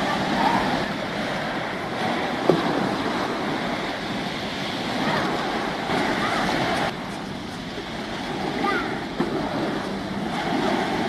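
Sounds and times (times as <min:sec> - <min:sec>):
waves on choppy water: 0:00.0 - 0:11.0
wind on microphone: 0:00.0 - 0:11.0.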